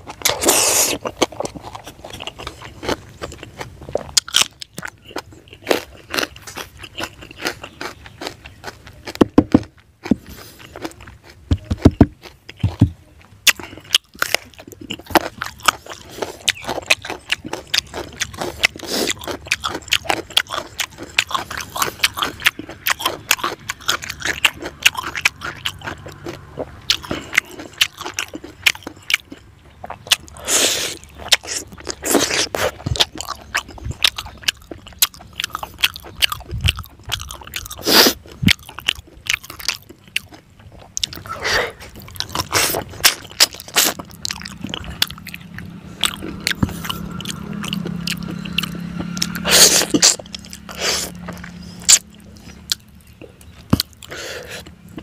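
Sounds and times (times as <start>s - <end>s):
person chewing and smacking: 0.0s - 55.0s.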